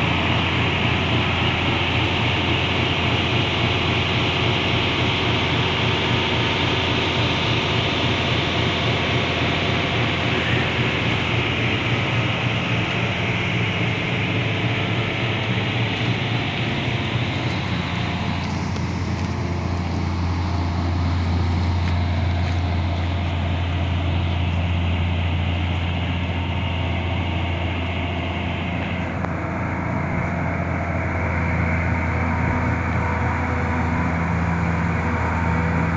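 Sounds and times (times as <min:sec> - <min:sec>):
excavator engine hum: 0:00.0 - 0:35.9.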